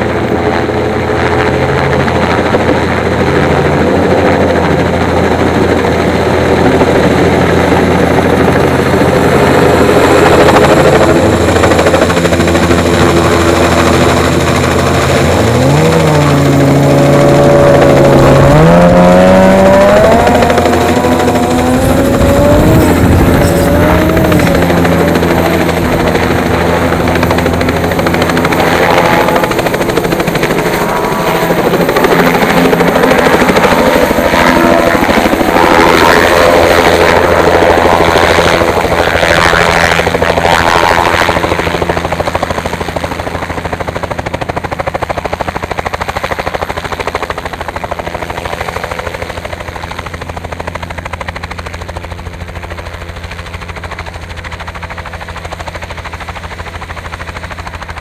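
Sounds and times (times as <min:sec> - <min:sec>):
helicopter rotor and turbine: 0:00.0 - 0:58.0.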